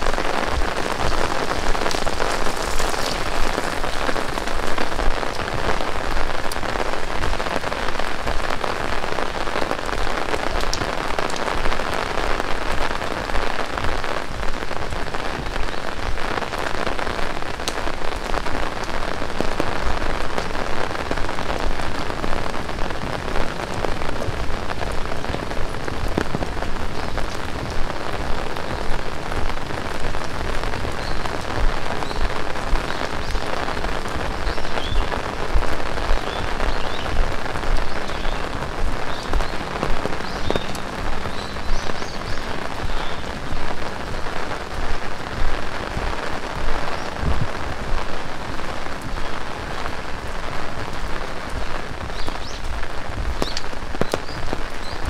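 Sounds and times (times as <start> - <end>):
heavy rain hissing: 0.0 - 55.0
raindrops ticking: 0.0 - 55.0.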